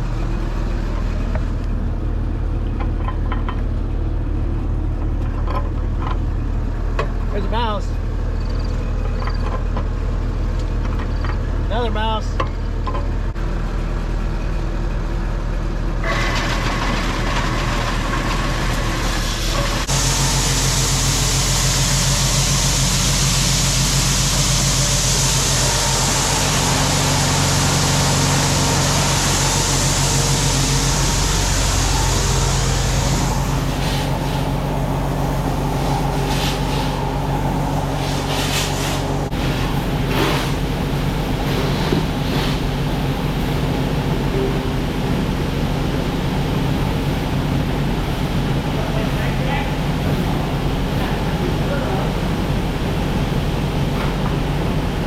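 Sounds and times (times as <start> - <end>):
machinery engine humming: 0.0 - 55.0.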